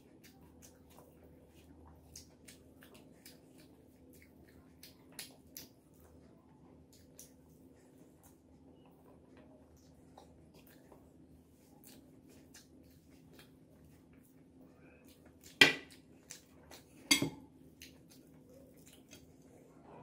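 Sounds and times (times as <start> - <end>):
person chewing: 0.0 - 6.2, 9.6 - 19.6.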